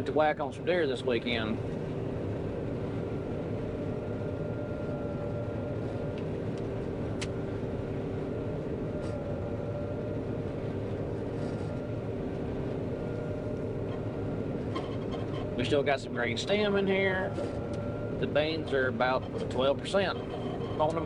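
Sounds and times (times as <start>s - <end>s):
combine harvester drone: 0.0s - 21.0s.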